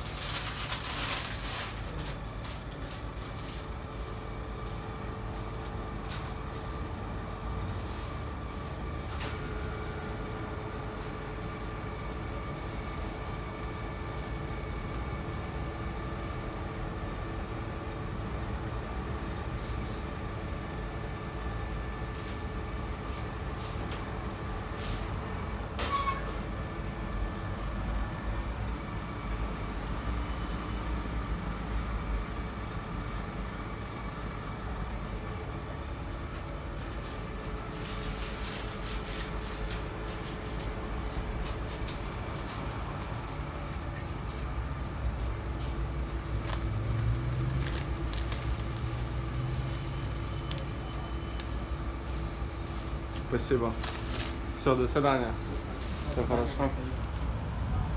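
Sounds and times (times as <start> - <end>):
faint electrical hum: 0.0 - 57.9
low rumble of kitchen equipment: 0.0 - 57.9.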